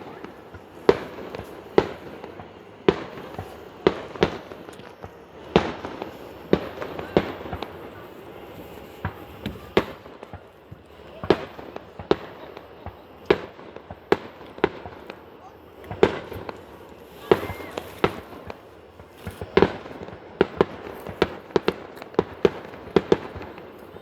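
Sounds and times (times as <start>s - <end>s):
firework bangs: 0.0s - 24.0s
fireworks crackling: 0.0s - 24.0s.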